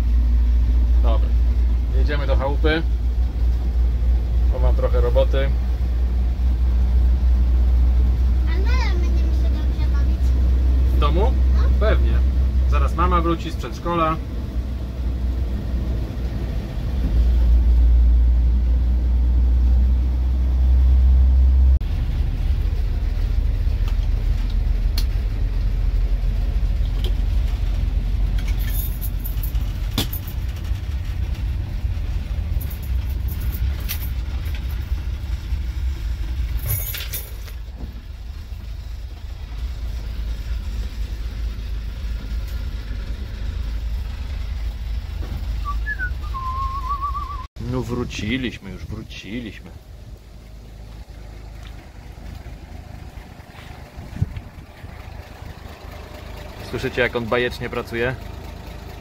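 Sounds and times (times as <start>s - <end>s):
truck engine rumbling: 0.0s - 59.0s.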